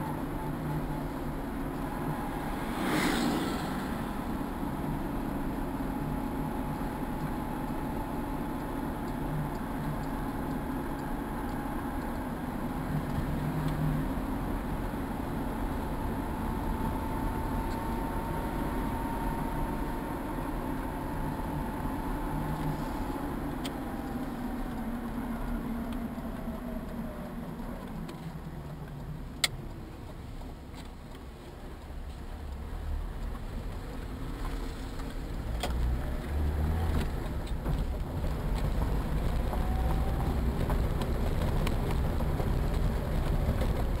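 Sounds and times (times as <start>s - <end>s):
low rumble: 0.0s - 30.7s, 31.6s - 44.0s
vehicle engine running: 0.0s - 44.0s.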